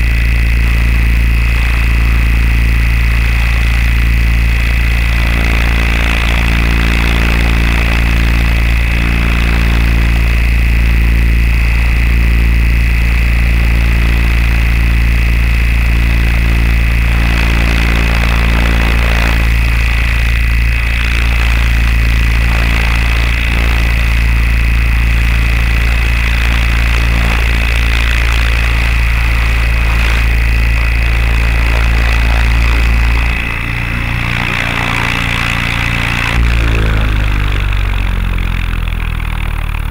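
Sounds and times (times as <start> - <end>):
high steady whine: 0.0 - 39.9
small aircraft engine running: 0.0 - 39.9.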